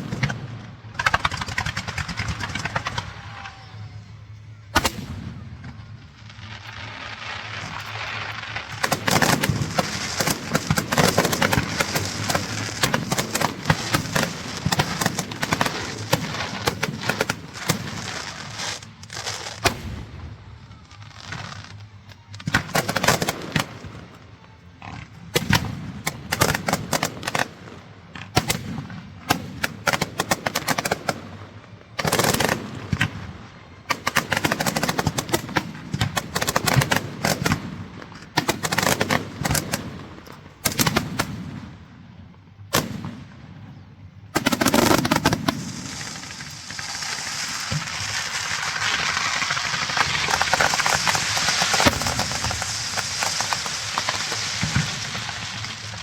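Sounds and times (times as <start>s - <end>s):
dense steady hiss: 0.0s - 56.0s
firecrackers banging: 0.0s - 56.0s.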